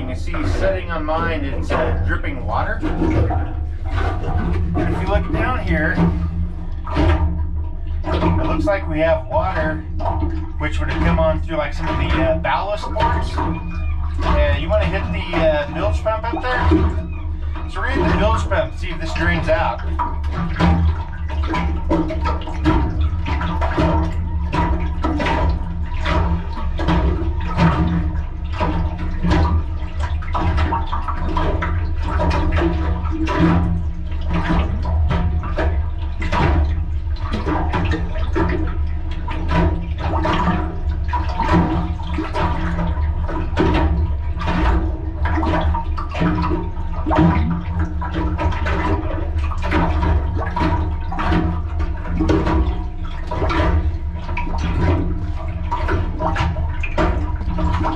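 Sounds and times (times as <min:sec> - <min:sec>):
bilge pump humming: 0:00.0 - 0:57.9
water sloshing and gurgling: 0:00.0 - 0:57.9.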